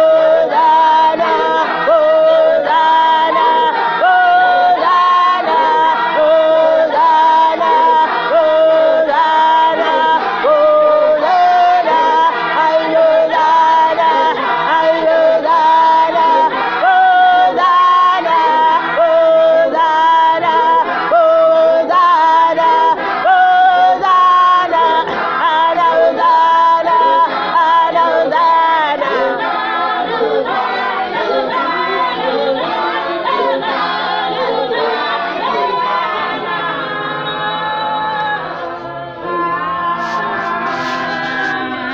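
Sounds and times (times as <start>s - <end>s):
women's choir singing a cappella: 0.0s - 41.9s.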